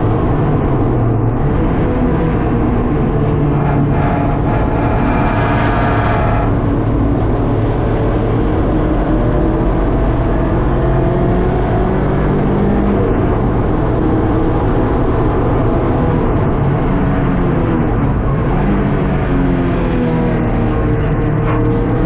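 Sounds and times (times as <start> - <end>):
car engine accelerating: 0.0 - 22.0
road noise inside car: 0.0 - 22.0.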